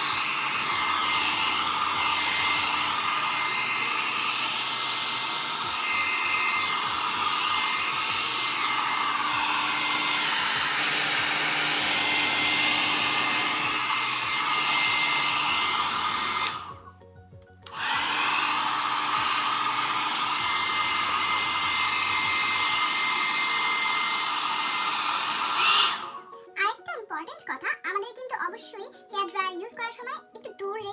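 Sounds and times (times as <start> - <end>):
hair dryer blowing: 0.0 - 17.0, 17.6 - 26.4.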